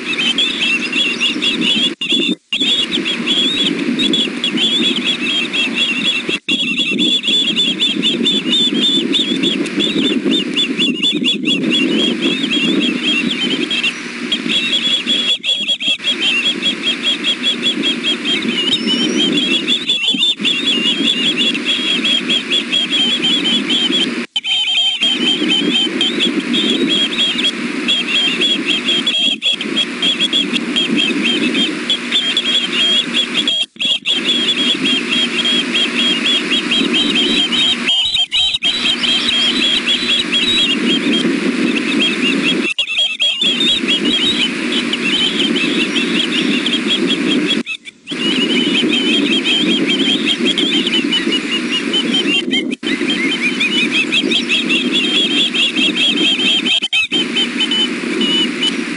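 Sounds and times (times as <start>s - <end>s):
high whistled chick chirps: 0.0s - 58.9s.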